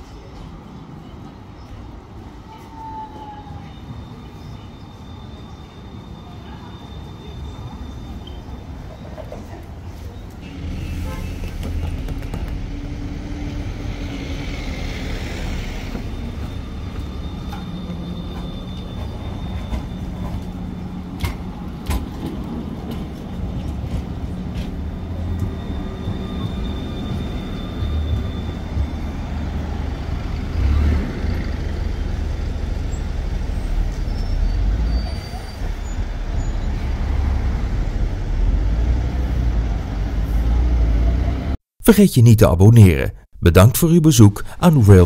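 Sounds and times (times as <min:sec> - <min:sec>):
tram humming: 0:00.0 - 0:41.6
city traffic and buses: 0:00.0 - 0:45.0.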